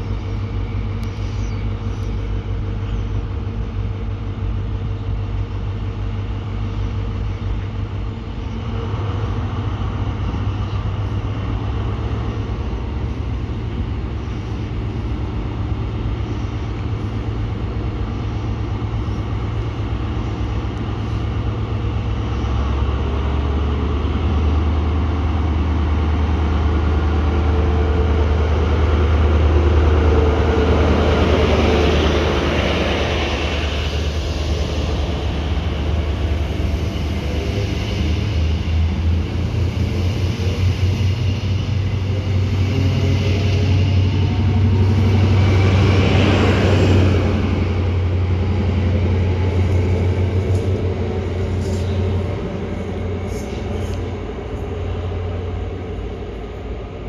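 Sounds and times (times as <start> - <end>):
rushing noise: 0.0 - 57.0
train running past: 0.0 - 57.0.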